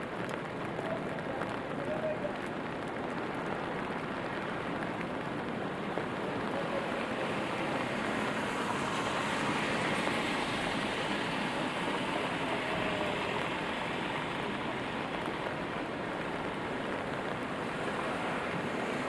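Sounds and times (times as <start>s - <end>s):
steady rainfall: 0.0s - 19.0s
city traffic: 0.2s - 19.0s.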